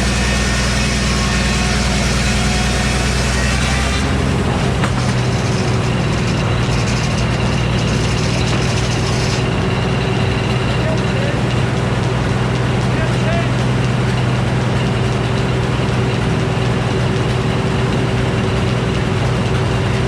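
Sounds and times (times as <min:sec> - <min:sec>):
circular saw cutting log: 0:00.0 - 0:20.0
sawmill drive drone: 0:00.0 - 0:20.0.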